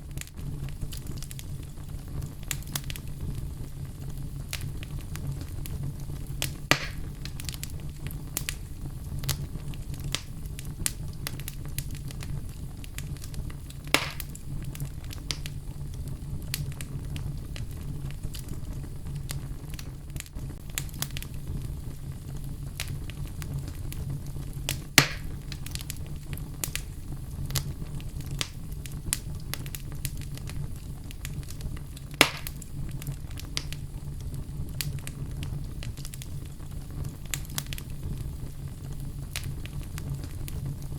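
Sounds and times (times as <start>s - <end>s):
fire rumbling and crackling: 0.0s - 40.9s
sharp loud pops from fire: 2.2s - 3.4s, 4.4s - 15.6s, 16.4s - 21.9s, 22.8s - 38.4s, 39.3s - 40.8s.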